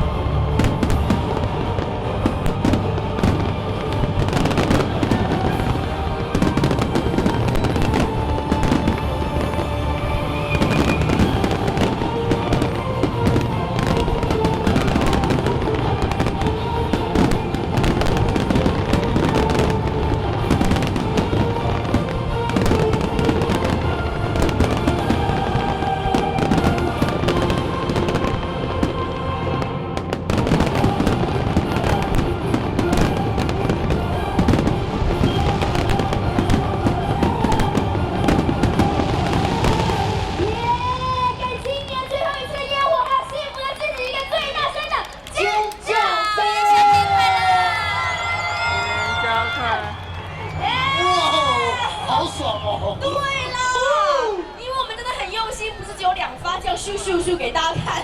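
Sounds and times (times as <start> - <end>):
fireworks bangs and crackling: 0.0 - 58.0
music playing: 0.0 - 58.0.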